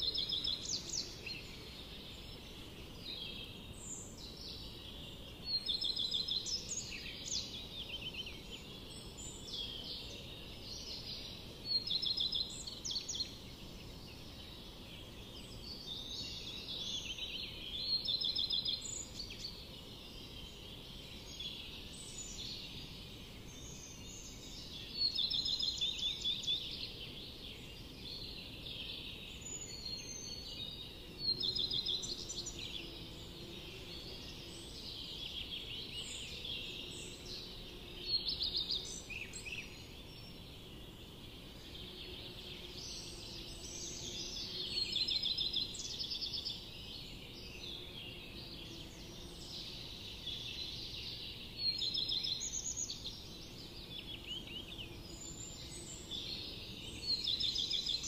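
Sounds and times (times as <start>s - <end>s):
low background hiss: 0.0s - 58.0s
small birds chirping: 0.0s - 58.0s.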